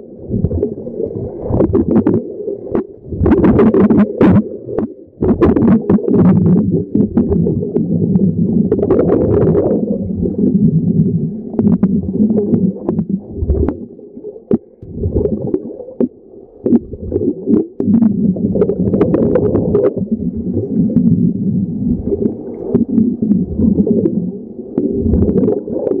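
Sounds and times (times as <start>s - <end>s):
underwater gas bubbles gurgling: 0.0s - 26.0s.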